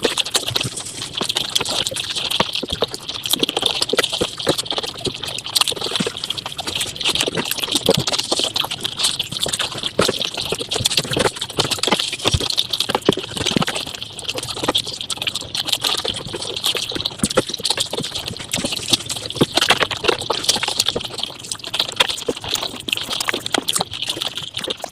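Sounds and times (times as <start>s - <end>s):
sped up chewing and crunching: 0.0s - 24.9s.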